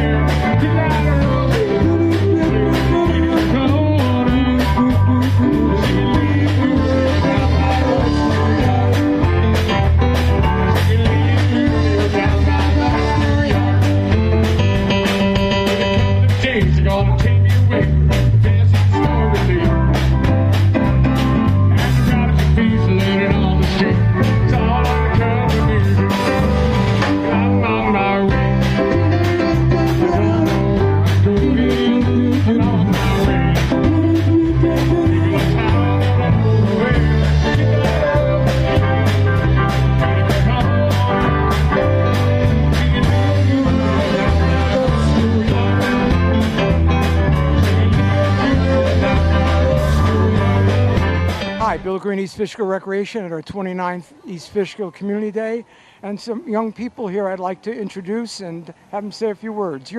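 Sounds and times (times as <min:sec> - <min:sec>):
person singing: 0:00.0 - 0:51.2
electric guitar: 0:00.0 - 0:51.9
drums beat: 0:00.0 - 0:52.0
bass: 0:00.0 - 0:53.6
band music: 0:00.0 - 0:59.9.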